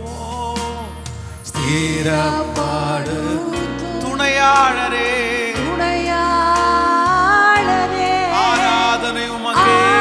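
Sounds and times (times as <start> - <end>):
man singing worship song: 0.0 - 6.6, 7.3 - 10.0.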